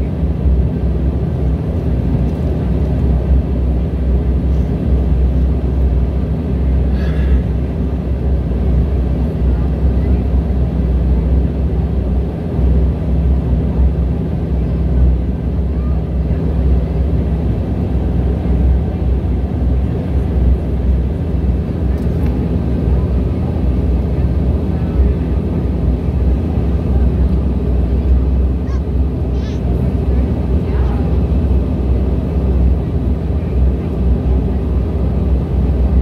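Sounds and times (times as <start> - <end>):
propeller drone in aircraft cabin: 0.0 - 36.0.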